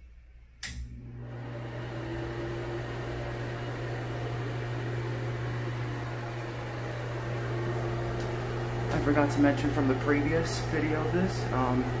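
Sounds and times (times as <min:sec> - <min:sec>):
exhaust fan humming: 0:00.6 - 0:12.0.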